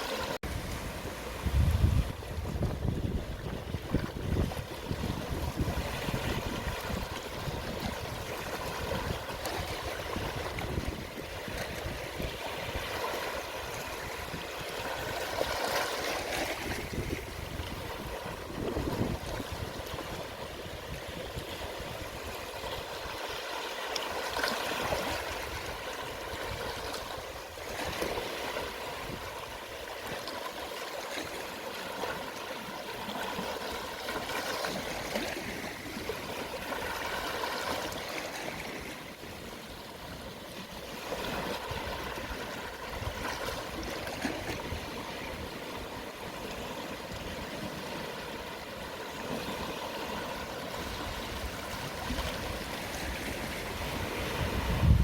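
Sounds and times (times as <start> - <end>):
gentle sea waves washing over shore: 0.0 - 55.0.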